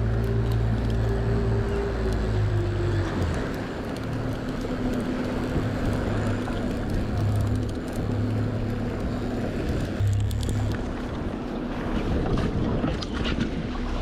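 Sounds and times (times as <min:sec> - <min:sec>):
boat motor running: 0:00.0 - 0:14.0
water noise: 0:00.0 - 0:14.0
wind: 0:00.0 - 0:14.0.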